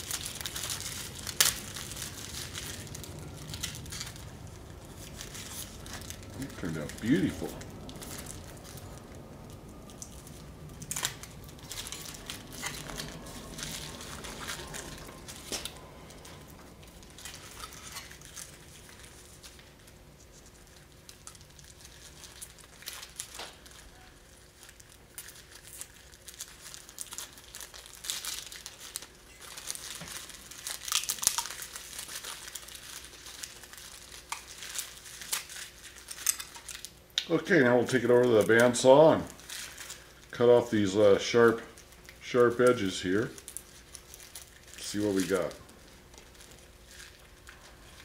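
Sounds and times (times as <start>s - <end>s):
plastic film crinkling and tearing: 0.0s - 48.0s.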